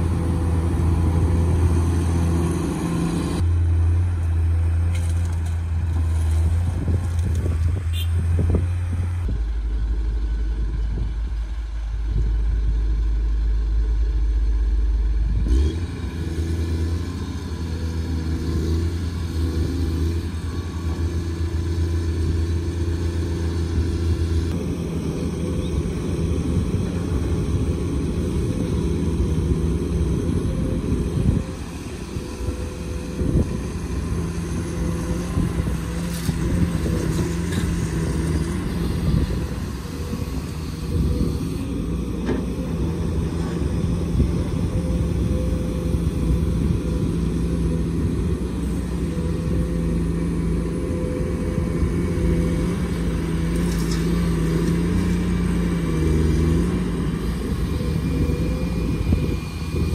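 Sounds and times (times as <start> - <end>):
excavator and trucks diesel engines: 0.0 - 59.9.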